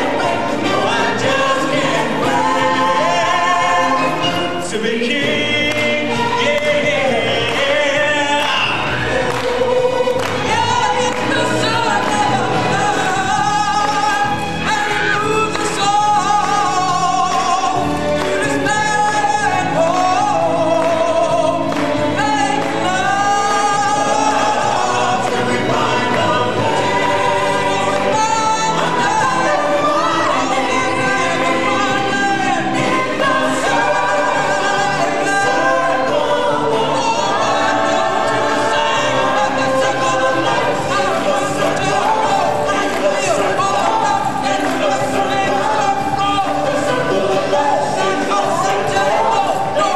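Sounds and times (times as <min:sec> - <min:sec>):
chorus singing over music: 0:00.0 - 0:49.9.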